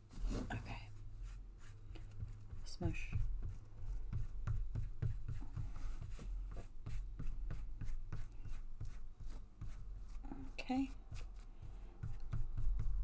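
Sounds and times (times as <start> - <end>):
hands rubbing paper: 0.1 - 13.0.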